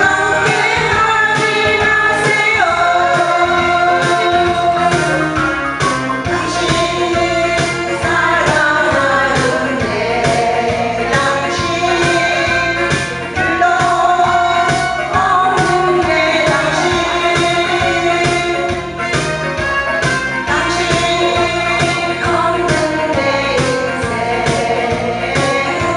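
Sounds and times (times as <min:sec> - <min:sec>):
person singing: 0:00.0 - 0:19.3, 0:20.4 - 0:25.9
backing music with steady beat: 0:00.0 - 0:25.9.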